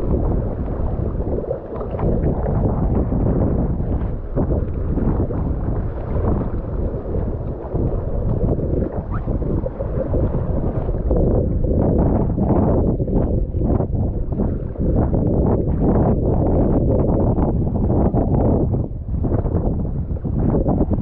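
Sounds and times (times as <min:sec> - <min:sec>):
water splashing around kayak: 0:00.0 - 0:21.0
wind buffeting microphone: 0:00.0 - 0:21.0.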